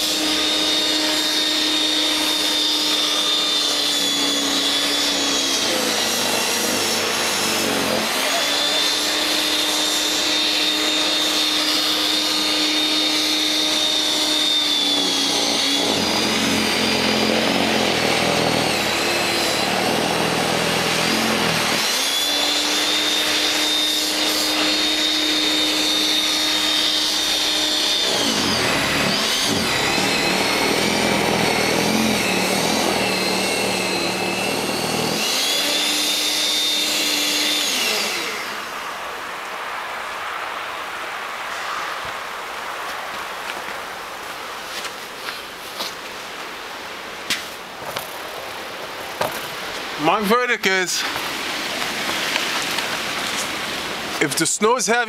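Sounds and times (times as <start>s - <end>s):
electric snow thrower whining: 0.0s - 55.0s.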